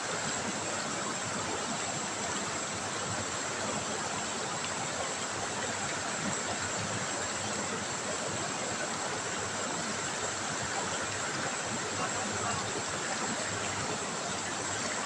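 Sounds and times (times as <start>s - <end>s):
river water rushing over stones: 0.0s - 15.0s.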